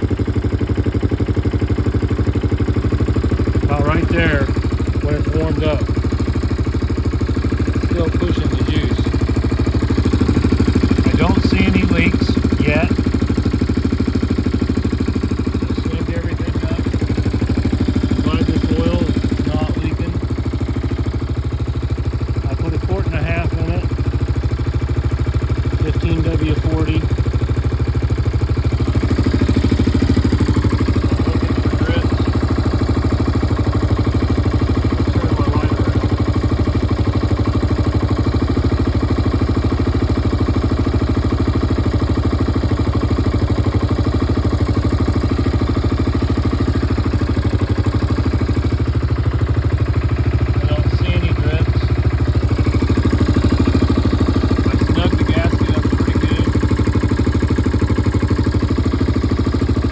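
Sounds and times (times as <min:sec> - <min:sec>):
quad bike engine idling: 0:00.0 - 0:59.9.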